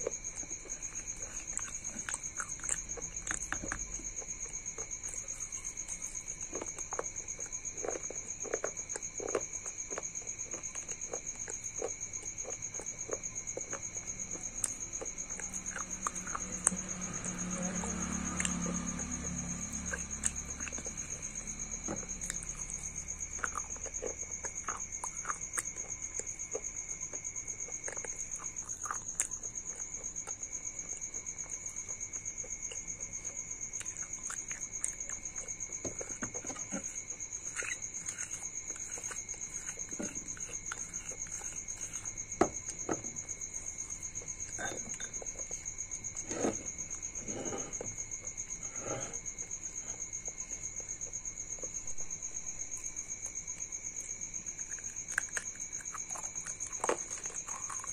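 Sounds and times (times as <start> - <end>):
food crunching: 0.0 - 48.4, 50.2 - 57.9.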